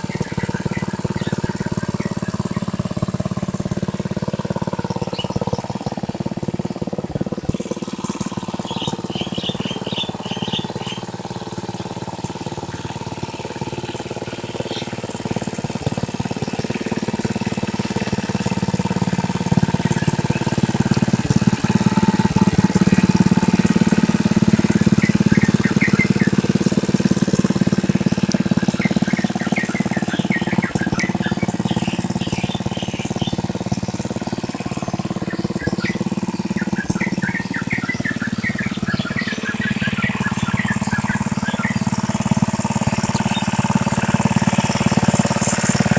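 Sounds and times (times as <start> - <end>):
birds chirping: 0.0 - 45.9
tractor engine running: 0.0 - 45.9.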